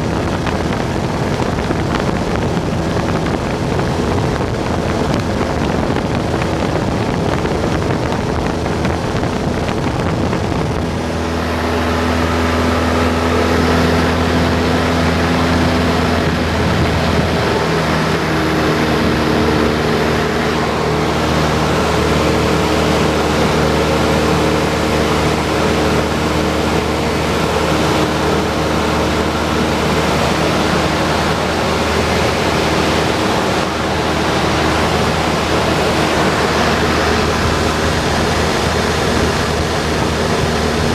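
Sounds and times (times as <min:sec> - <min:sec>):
air rushing: 0:00.0 - 0:40.9
airplane engine droning: 0:00.0 - 0:40.9.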